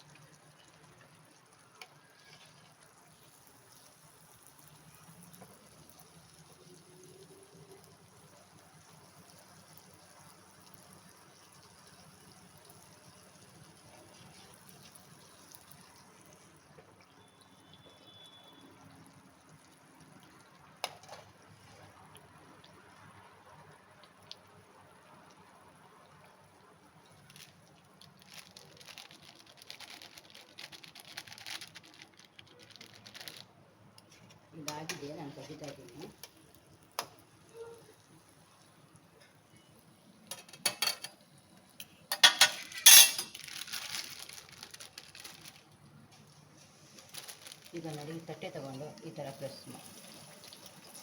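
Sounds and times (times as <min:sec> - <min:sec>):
food frying in hot oil: 0:00.0 - 0:32.6, 0:33.8 - 0:51.0.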